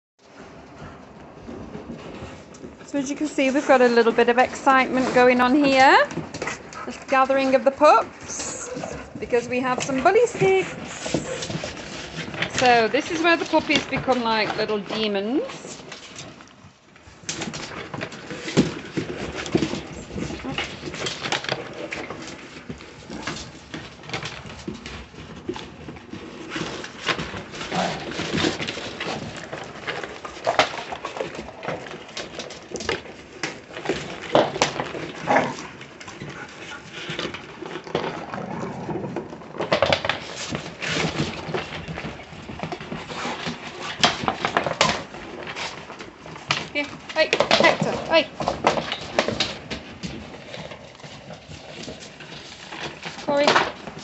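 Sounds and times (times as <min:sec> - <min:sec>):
puppies scuffling: 0:00.2 - 0:54.0.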